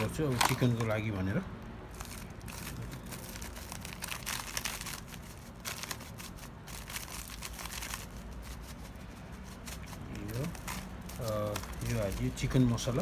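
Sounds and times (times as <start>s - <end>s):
plastic packet crinkling: 0.0s - 1.2s, 1.8s - 13.0s.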